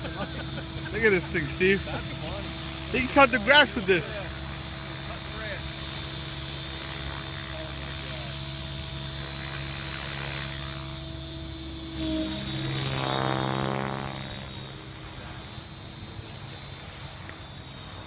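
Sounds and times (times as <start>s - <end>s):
helicopter rotor hum: 0.0s - 18.0s
high motor whine: 0.0s - 18.0s.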